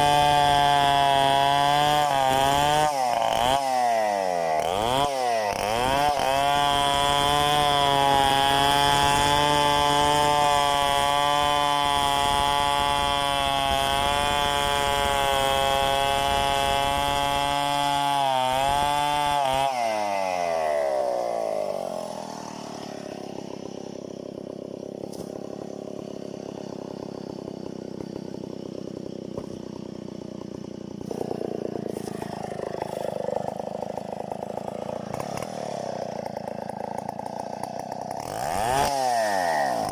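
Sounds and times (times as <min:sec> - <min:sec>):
chainsaw at full throttle: 0:00.0 - 0:39.9
chainsaw idling: 0:00.0 - 0:39.9.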